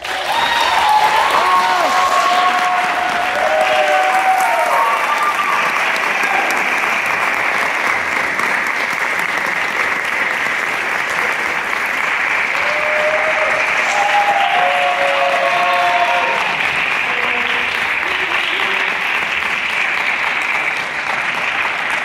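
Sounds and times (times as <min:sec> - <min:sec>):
audience applauding: 0:00.0 - 0:22.0
hands clapping close by: 0:00.0 - 0:22.0.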